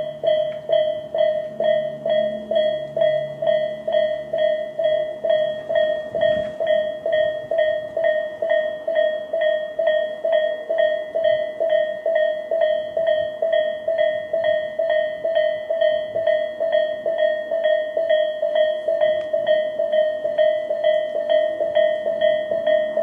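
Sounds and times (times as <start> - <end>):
level crossing warning bell: 0.0 - 23.0.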